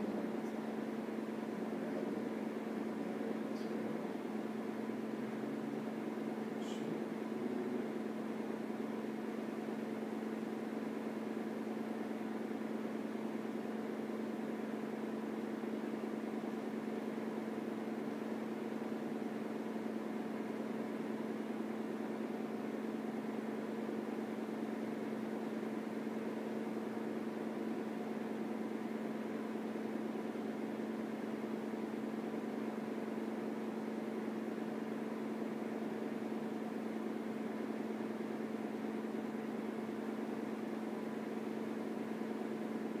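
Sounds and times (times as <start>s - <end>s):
electric fan whirring: 0.0s - 43.0s.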